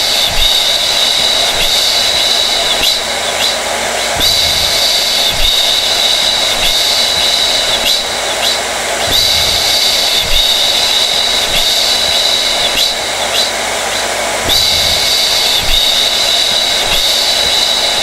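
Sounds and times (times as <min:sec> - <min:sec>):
hair dryer blowing with whine: 0:00.0 - 0:18.0.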